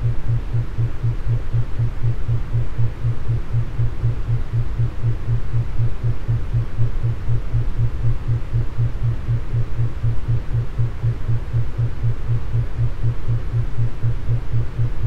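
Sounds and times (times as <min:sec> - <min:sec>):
pulsing low hum: 0:00.0 - 0:15.0.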